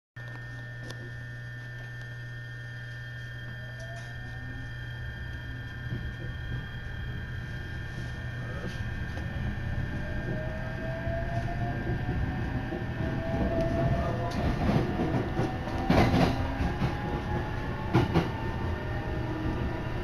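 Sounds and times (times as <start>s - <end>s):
faint motor whine rising: 0.2s - 20.0s
train running rumble: 3.4s - 20.0s.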